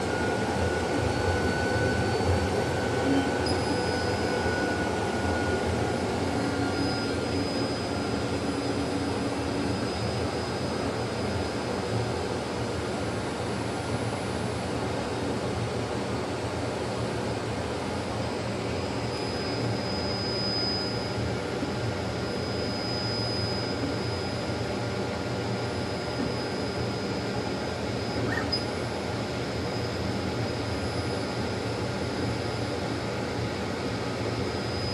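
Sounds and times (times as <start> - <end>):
laser printer whirring: 0.0 - 34.9.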